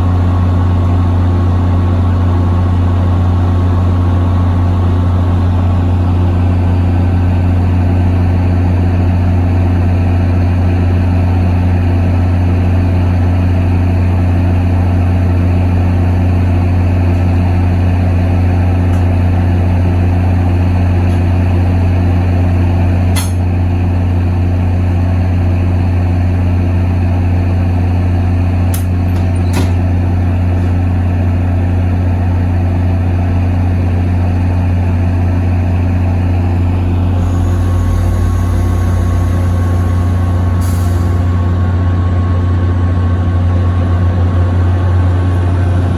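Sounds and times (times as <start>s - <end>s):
diesel locomotive engine idling: 0.0s - 45.9s.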